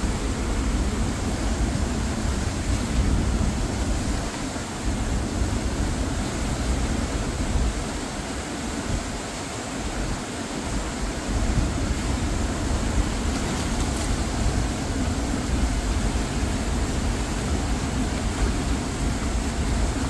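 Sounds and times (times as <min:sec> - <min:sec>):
water rushing over rapids: 0:00.0 - 0:20.0
wind on microphone: 0:00.0 - 0:20.0.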